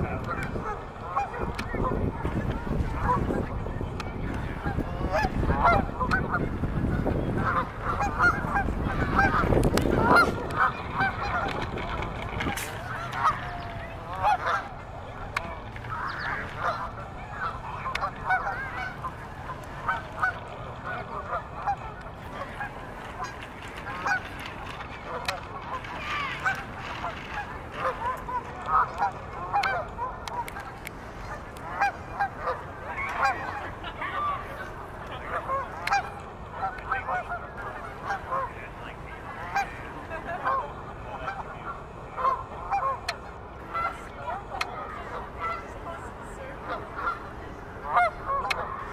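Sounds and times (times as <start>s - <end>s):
geese honking: 0.0s - 3.6s, 4.2s - 48.9s.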